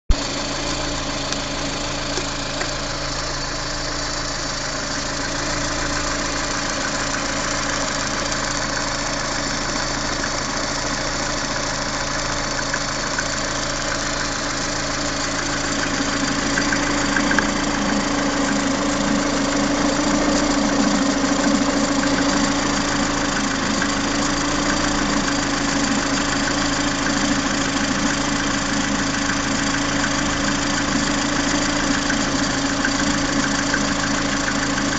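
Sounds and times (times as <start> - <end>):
car engine running: 0.1 - 34.9
engine knocking: 0.1 - 34.9.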